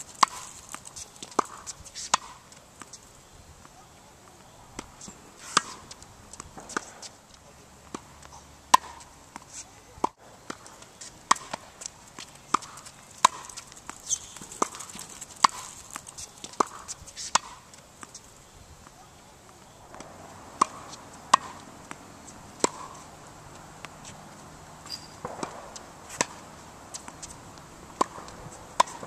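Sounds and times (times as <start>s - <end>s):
tennis racket hitting ball: 0.0s - 3.0s, 3.6s - 18.2s, 19.5s - 29.0s.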